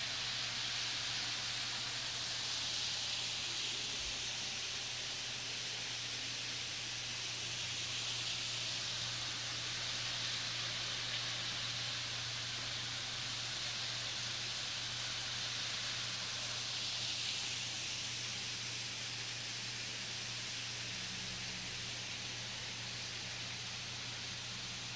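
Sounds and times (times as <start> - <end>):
distant waterfall hissing: 0.0 - 24.9.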